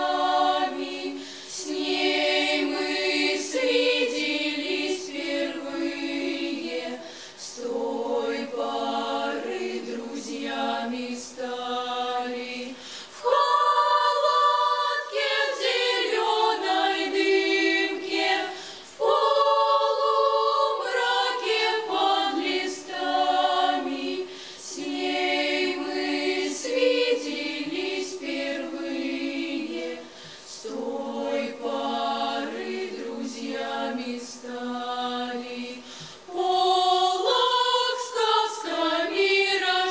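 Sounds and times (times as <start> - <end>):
choir singing a cappella: 0.0 - 39.9.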